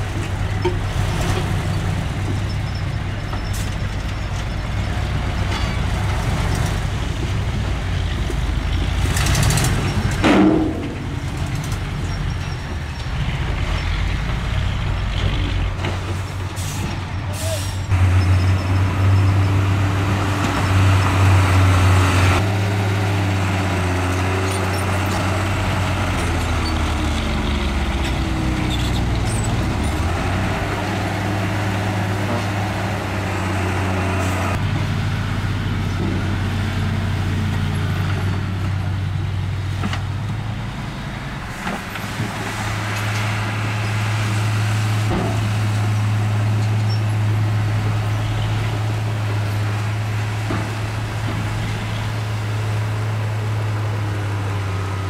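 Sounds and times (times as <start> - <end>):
heavy diesel machinery working: 0.0 - 55.0.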